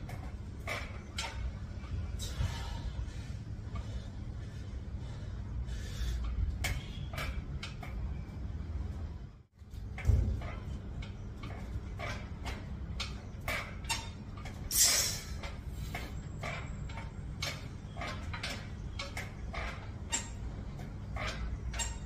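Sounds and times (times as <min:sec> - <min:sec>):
steel frame clicking and creaking: 0:00.0 - 0:22.0.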